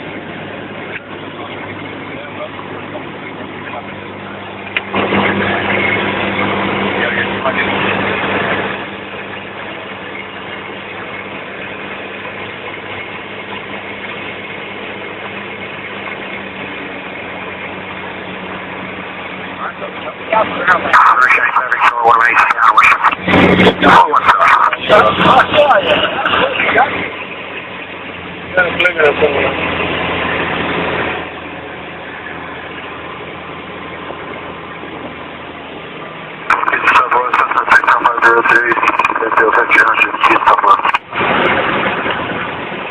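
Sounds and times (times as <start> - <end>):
propeller plane engine droning: 0.0 - 42.9.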